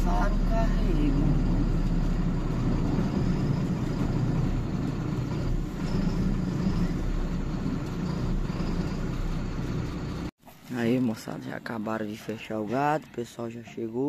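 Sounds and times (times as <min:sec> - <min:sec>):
road and tyre rumble: 0:00.0 - 0:14.0
vehicle engine hum: 0:00.0 - 0:14.0.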